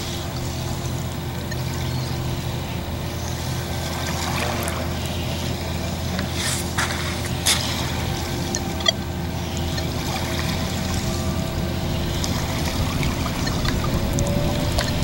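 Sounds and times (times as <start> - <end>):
low hum: 0.0 - 15.0
sharp water splashes: 0.0 - 15.0
small waves lapping on shore: 0.0 - 15.0.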